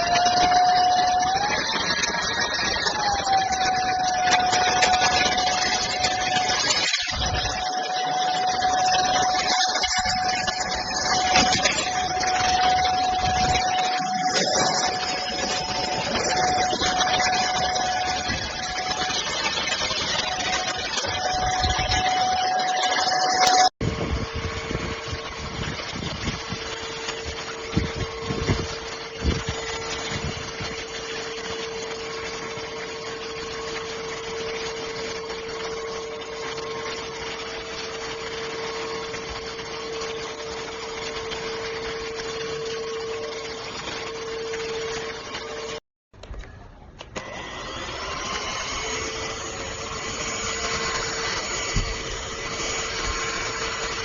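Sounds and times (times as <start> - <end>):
handheld vacuum cleaner running: 0.0 - 45.8, 47.0 - 54.0.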